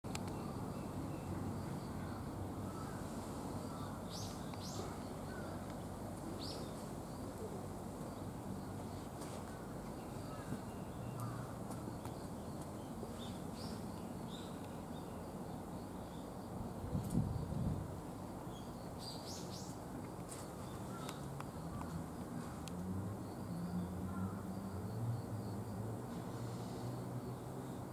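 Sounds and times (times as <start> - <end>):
small birds chirping: 0.1 - 17.7, 18.4 - 24.3.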